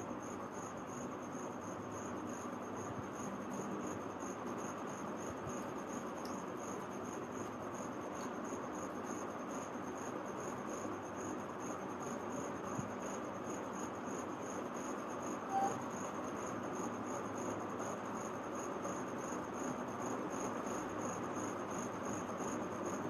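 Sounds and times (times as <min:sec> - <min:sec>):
insect chirping: 0:00.0 - 0:23.0.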